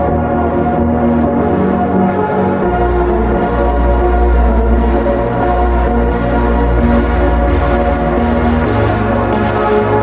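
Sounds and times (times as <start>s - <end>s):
held notes over deep bass: 0.0s - 10.0s.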